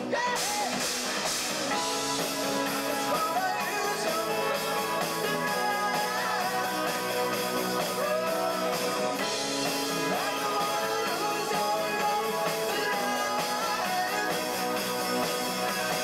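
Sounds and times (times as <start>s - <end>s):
lead vocal singing: 0.0s - 16.0s
live rock band playing: 0.0s - 16.0s.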